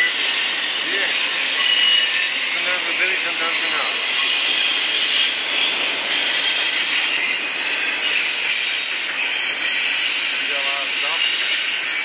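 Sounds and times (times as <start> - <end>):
freight train wheels rushing on rails: 0.0 - 12.0.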